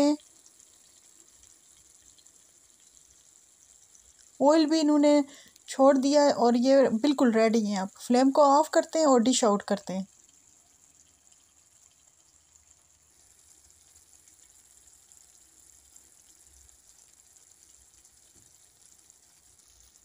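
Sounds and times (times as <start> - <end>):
faint room tone hiss: 0.0 - 20.0.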